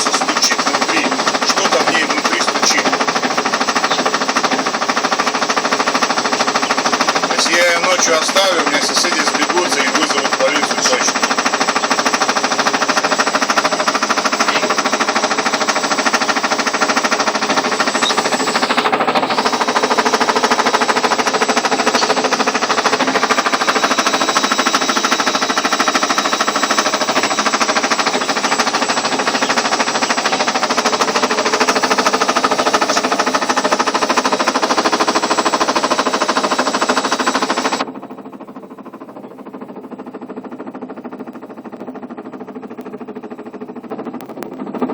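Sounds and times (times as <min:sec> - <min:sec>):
rapid knocking inside machine: 0:00.0 - 0:44.9
washing machine spinning: 0:00.0 - 0:44.9.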